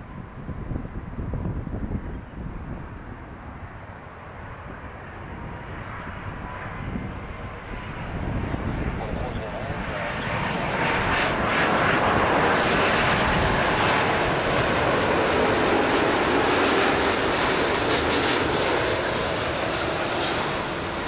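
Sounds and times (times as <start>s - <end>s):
jet airliner passing overhead: 0.0s - 21.0s.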